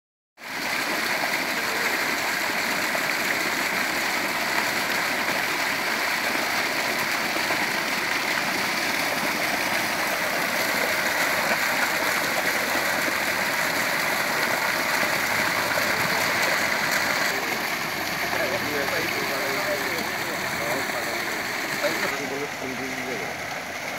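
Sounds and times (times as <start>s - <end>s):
water gushing into basin: 0.4s - 23.9s.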